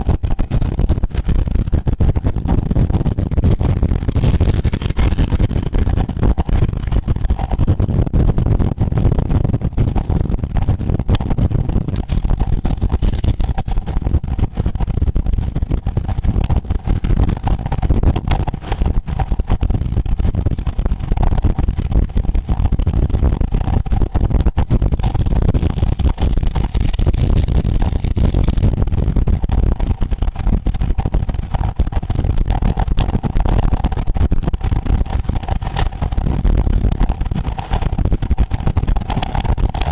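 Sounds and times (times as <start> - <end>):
road noise: 0.0 - 39.9
wind rush on microphone: 0.0 - 39.9.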